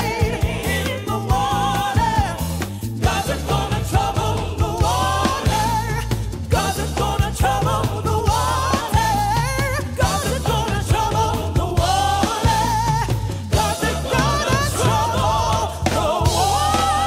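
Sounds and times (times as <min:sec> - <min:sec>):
song with singing voice: 0:00.0 - 0:17.0.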